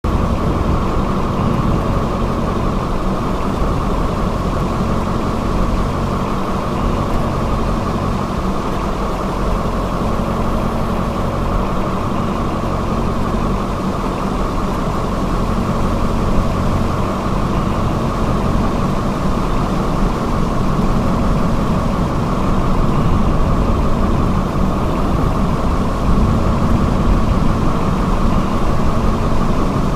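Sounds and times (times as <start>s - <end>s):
vehicle engine low rumble: 0.0s - 29.9s.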